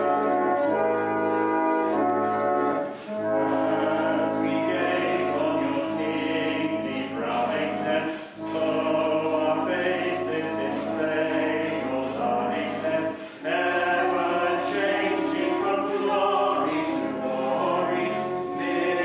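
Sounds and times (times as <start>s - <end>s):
congregation singing a hymn: 0.0s - 19.0s.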